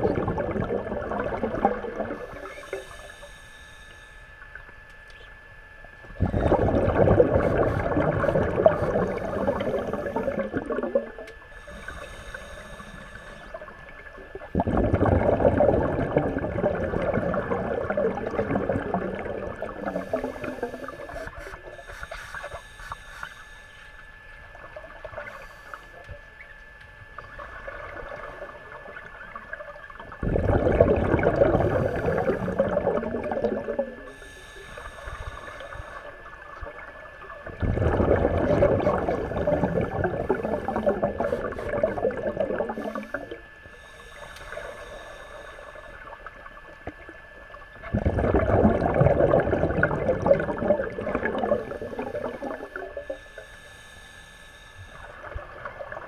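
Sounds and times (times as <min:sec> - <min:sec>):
underwater exhaled bubbles: 0:00.0 - 0:23.0, 0:23.7 - 0:56.0
faint steady tone: 0:00.0 - 0:56.0.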